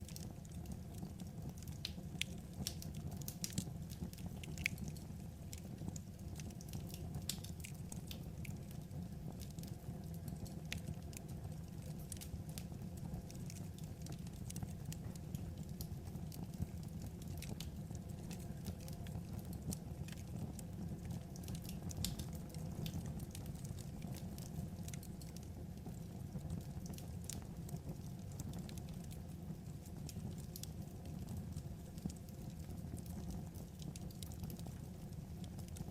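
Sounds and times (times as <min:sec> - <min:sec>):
firewood crackling and popping: 0:00.0 - 0:35.9
low rumble of fire: 0:00.0 - 0:35.9.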